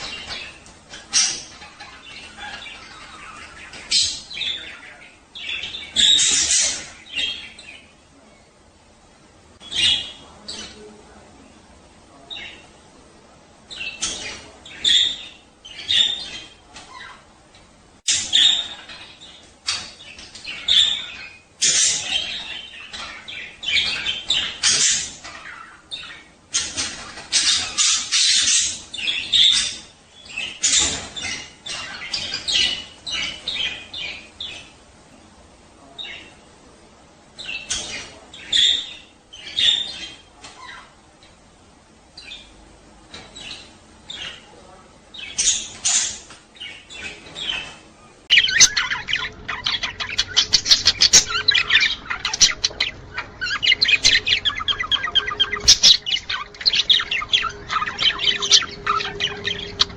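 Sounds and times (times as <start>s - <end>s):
budgerigars chattering and squawking: 0.0s - 8.0s, 9.6s - 11.4s, 13.7s - 17.4s, 18.1s - 34.8s, 37.4s - 41.3s, 42.2s - 59.9s.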